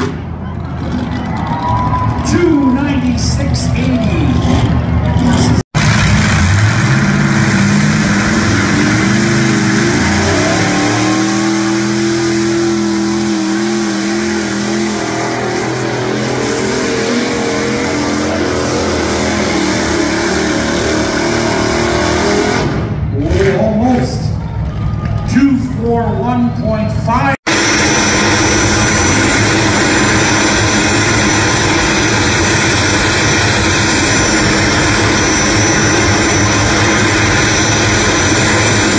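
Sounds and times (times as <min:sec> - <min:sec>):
heavy rushing noise: 0:00.0 - 0:25.3, 0:27.4 - 0:38.9
truck engine at full throttle: 0:00.0 - 0:38.9.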